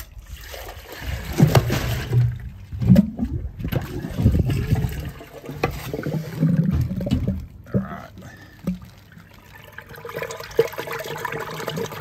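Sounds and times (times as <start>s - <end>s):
water draining away: 0.0s - 12.0s
plunger surging water in drain: 0.2s - 7.5s, 8.6s - 12.0s.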